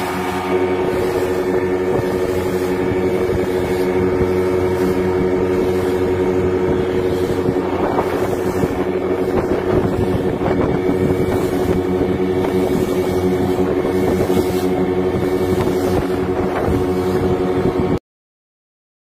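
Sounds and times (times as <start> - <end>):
outboard motor running: 0.0 - 18.0
water rushing: 0.0 - 18.0
wind: 0.0 - 18.0.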